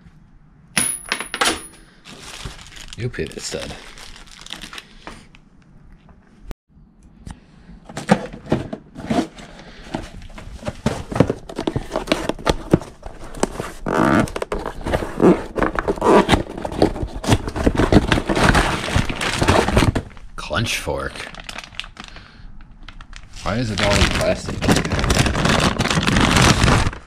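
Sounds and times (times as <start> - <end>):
plastic packaging rustling: 2.0 - 5.3, 8.0 - 27.0.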